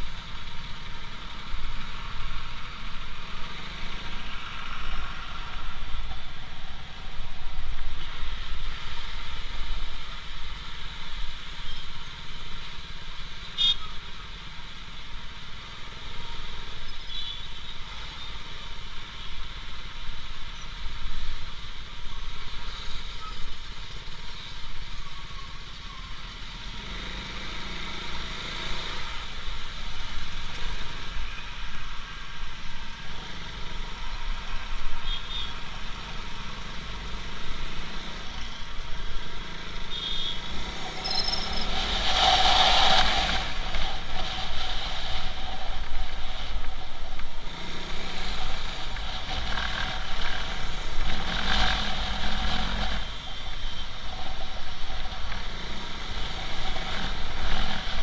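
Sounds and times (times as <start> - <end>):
traffic noise: 0.0 - 58.0.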